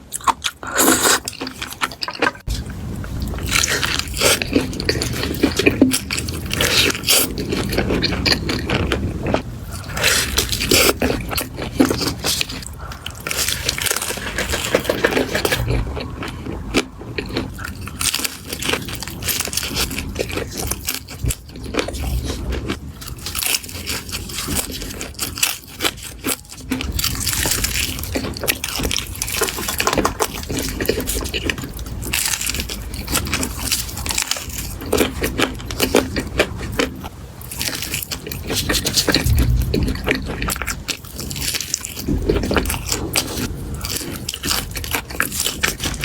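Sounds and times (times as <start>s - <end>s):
person chewing crunchy food: 0.0s - 46.0s.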